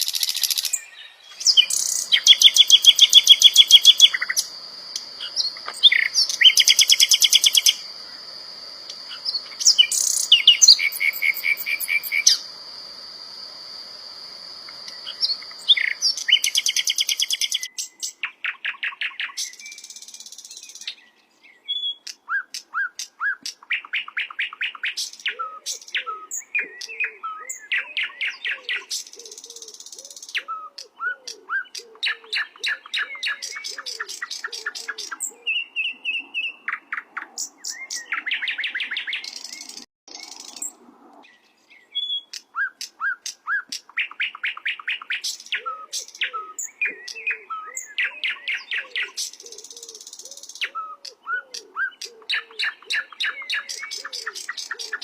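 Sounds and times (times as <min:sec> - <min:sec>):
bird singing chirps and trills: 0:00.0 - 0:08.3, 0:08.9 - 0:12.4, 0:14.7 - 0:55.0.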